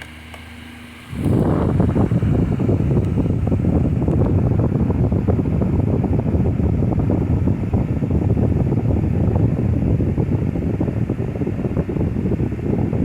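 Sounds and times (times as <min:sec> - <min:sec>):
fan airflow buffeting microphone: 0:00.0 - 0:13.0.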